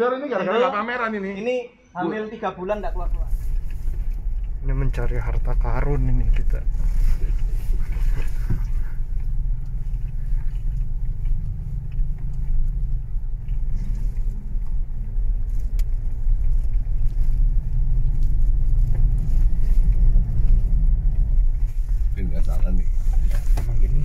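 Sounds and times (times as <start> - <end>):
car engine and tyres rumbling: 2.5 - 24.0.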